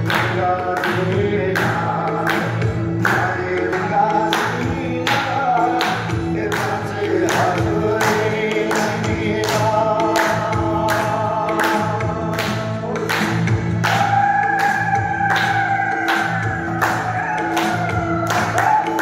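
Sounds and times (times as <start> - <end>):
group singing over a beat: 0.0 - 19.0.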